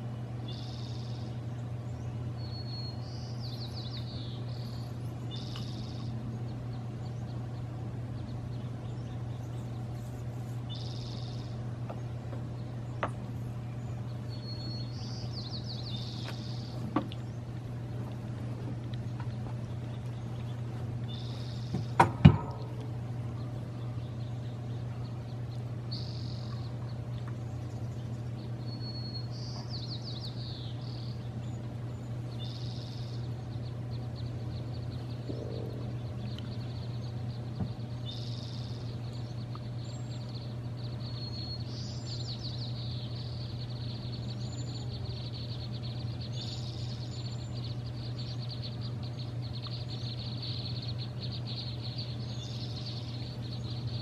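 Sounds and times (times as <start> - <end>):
low hum: 0.0 - 54.0
small birds chirping: 0.0 - 54.0.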